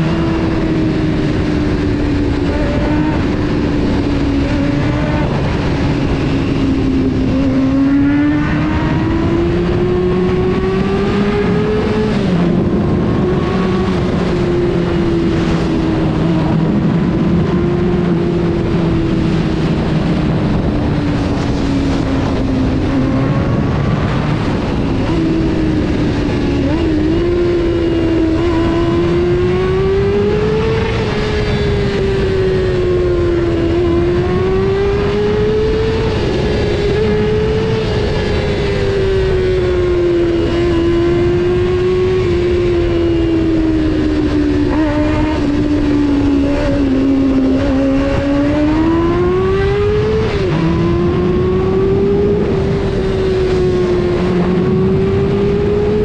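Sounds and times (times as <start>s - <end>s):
motorcycle engine at high revs: 0.0s - 56.0s
wind and road rush: 0.0s - 56.0s.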